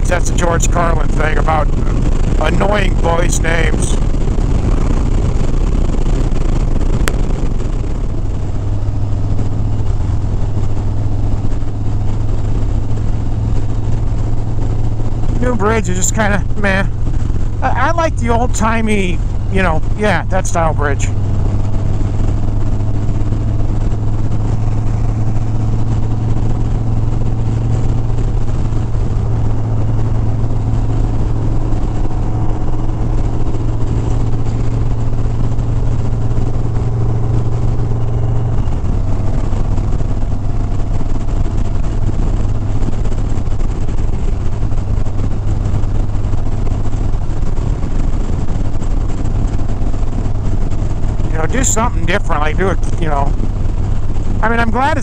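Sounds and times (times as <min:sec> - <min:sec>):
motorcycle engine cruising: 0:00.0 - 0:55.0
rushing wind: 0:00.0 - 0:55.0.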